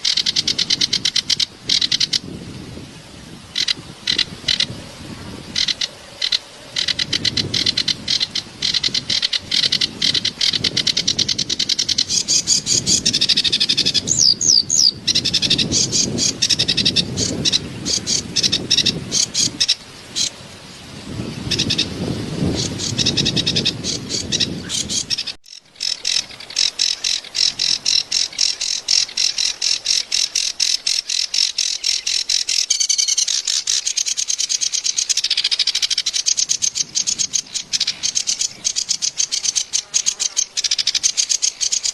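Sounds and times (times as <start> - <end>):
reed warbler singing: 0.0 - 41.9.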